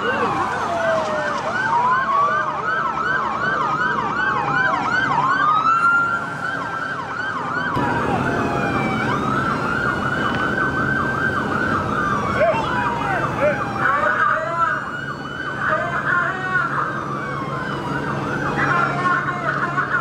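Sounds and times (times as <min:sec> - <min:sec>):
police siren wail: 0:00.0 - 0:20.0
police siren yelp: 0:00.0 - 0:20.0
traffic rumble: 0:00.0 - 0:20.0.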